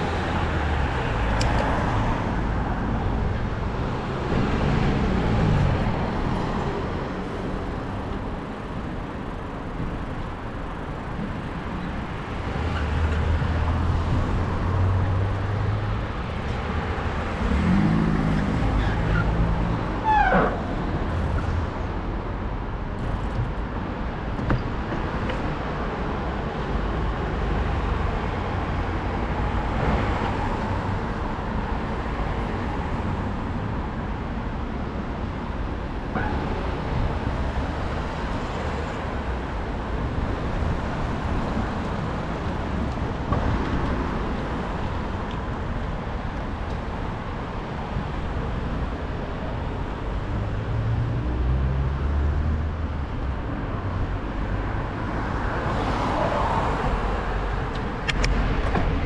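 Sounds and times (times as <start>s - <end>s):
city road traffic: 0.0s - 59.0s.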